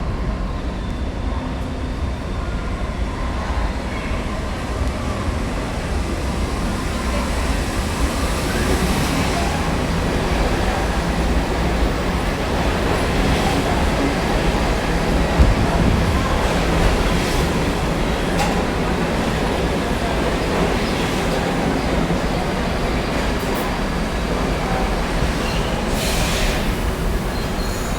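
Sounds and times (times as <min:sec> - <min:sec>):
subway train rumble on rails: 0:00.0 - 0:27.9.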